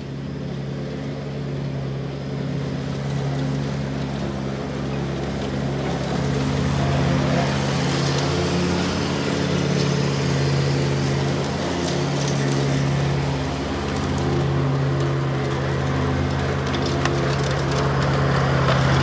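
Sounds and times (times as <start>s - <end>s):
mower engine running: 0.0s - 19.0s.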